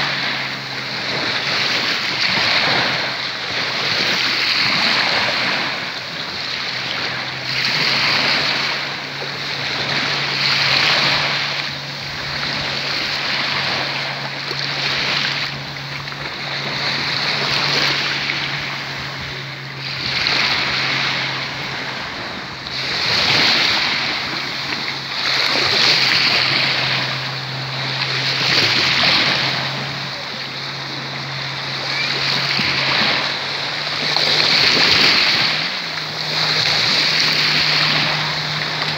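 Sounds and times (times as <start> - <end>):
small waves washing on shore: 0.0 - 38.9.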